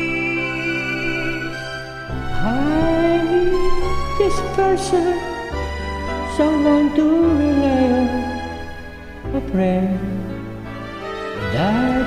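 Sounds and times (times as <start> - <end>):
slow ballad backing music: 0.0 - 12.0.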